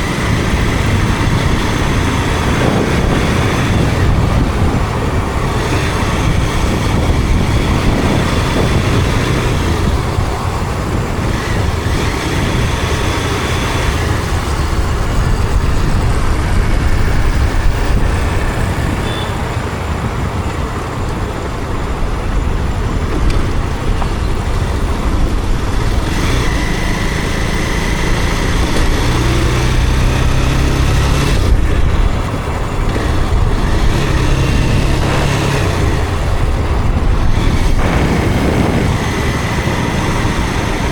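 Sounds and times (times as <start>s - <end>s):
motorcycle engine running: 0.0s - 40.9s
road noise: 0.0s - 40.9s
surrounding traffic: 0.0s - 40.9s
wind noise: 0.0s - 40.9s.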